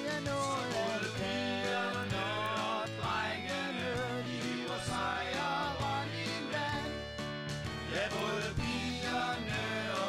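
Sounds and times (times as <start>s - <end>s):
country-style music: 0.0s - 10.0s.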